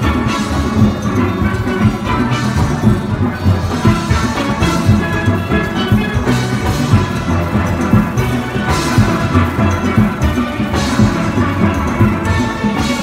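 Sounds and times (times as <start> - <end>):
steel band playing: 0.0 - 13.0.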